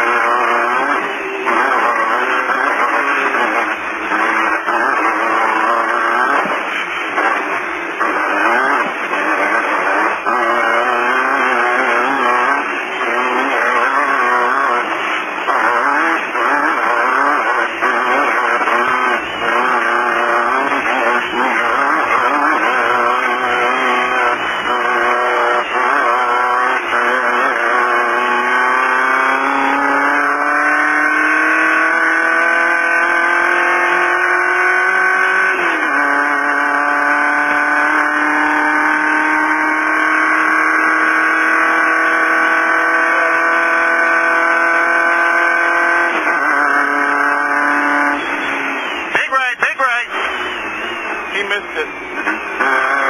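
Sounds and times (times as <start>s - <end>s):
car engine revving hard: 0.0s - 53.0s.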